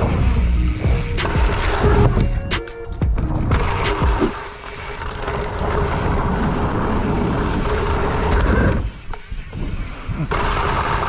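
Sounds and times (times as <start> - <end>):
bike tyres on dirt trail: 0.0 - 11.0.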